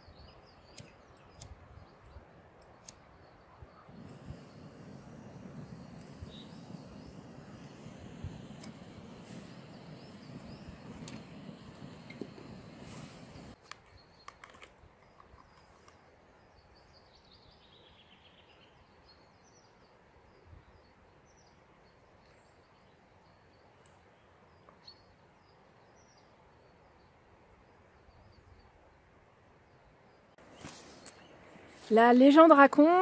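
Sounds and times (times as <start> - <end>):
faint small-bird chirps: 0.0 - 29.0.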